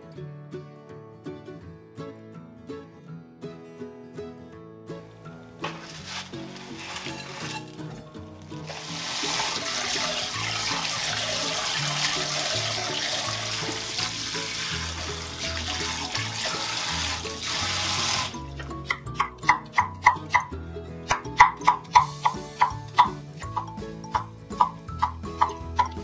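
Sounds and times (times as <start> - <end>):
background music: 0.0 - 26.0.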